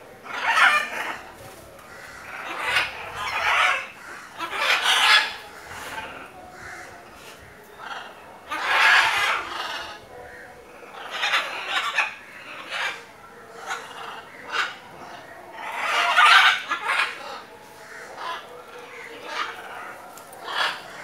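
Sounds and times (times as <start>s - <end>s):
macaws squawking: 0.2s - 21.0s.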